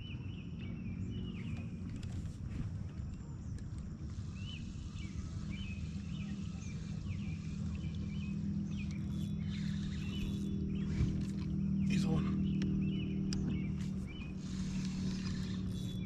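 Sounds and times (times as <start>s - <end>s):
low hum: 0.0s - 16.0s
small birds chirping: 0.0s - 16.0s.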